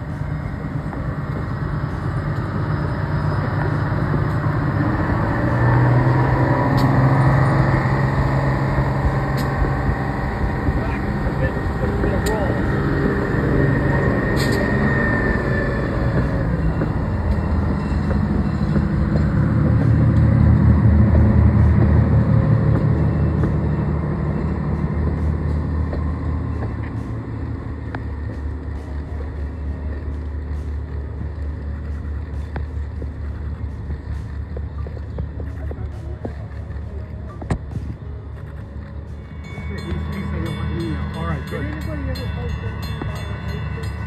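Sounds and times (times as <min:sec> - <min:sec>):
diesel engines droning: 0:00.0 - 0:44.0.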